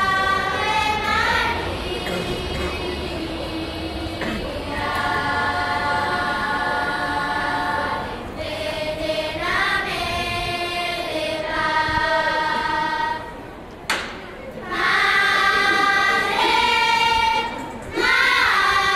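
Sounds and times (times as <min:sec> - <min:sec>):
children's choir singing: 0:00.0 - 0:13.7, 0:14.6 - 0:18.9.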